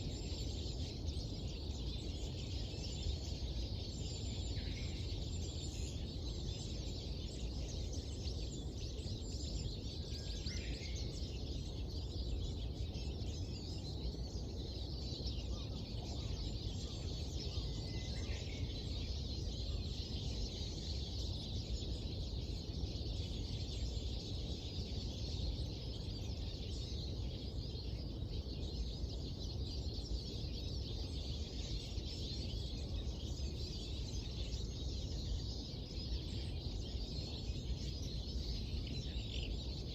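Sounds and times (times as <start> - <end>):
birds chirping and twittering: 0.0 - 39.9
clear bird calls: 0.0 - 39.9.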